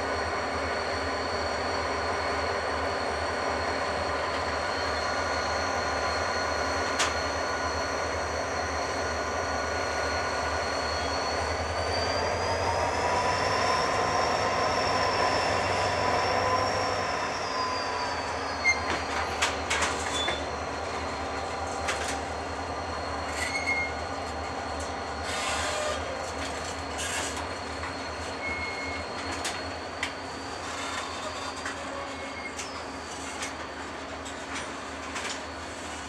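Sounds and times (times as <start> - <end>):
train rolling noise: 0.0 - 36.0
train wheel squeal: 0.0 - 36.0.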